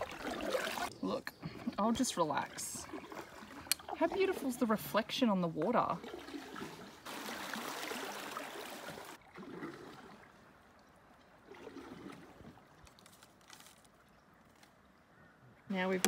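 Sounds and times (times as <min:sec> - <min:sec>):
water trickling and splashing: 0:00.0 - 0:15.1.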